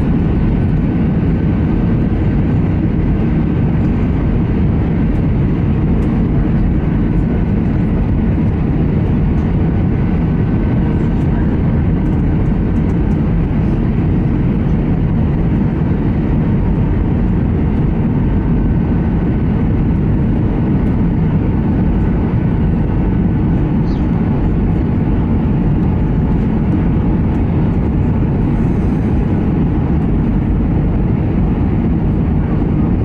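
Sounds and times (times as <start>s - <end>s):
aircraft engine and airflow roar: 0.0s - 33.0s.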